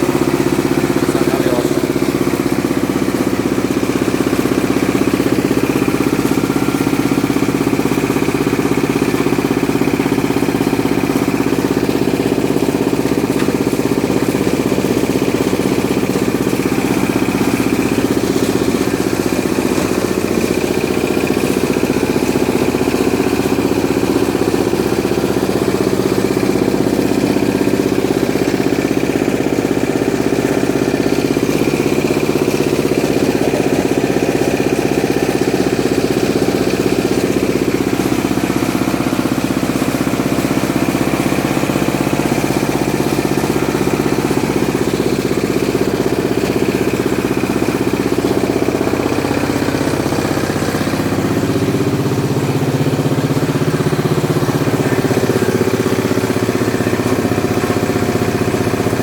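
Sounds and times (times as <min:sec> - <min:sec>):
grinding mill engine droning: 0:00.0 - 0:59.0.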